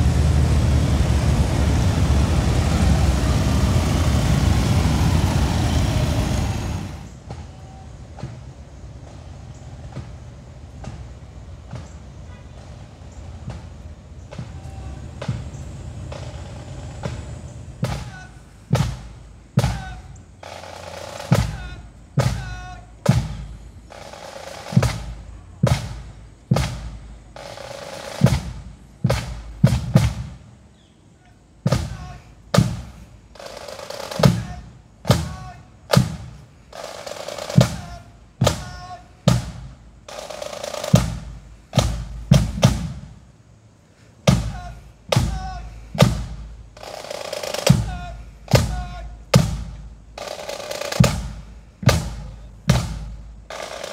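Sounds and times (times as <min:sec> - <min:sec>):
marching drums beat: 0:00.0 - 0:30.7, 0:31.4 - 0:53.9.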